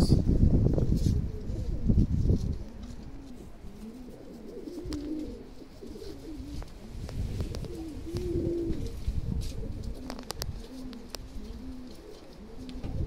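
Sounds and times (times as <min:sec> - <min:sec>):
wind rumbling on microphone: 0:00.0 - 0:13.0
pigeons cooing: 0:00.9 - 0:13.0.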